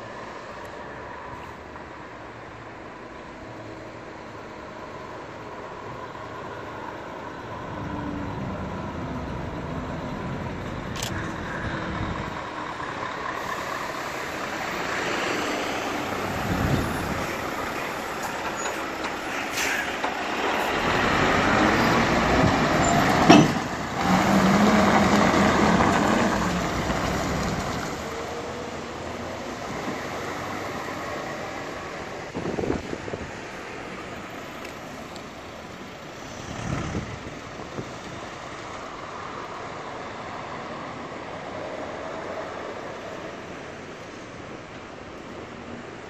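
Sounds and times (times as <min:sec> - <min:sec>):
road and trailer noise: 0:00.0 - 0:46.0
truck diesel engine passing: 0:04.6 - 0:43.9.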